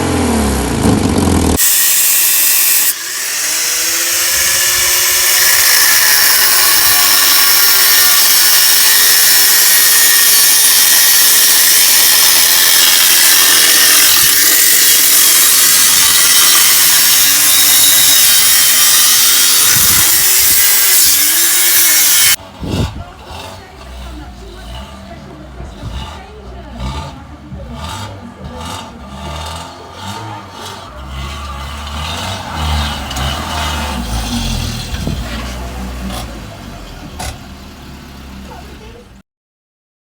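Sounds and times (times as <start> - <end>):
power tool cutting: 1.5 - 37.4.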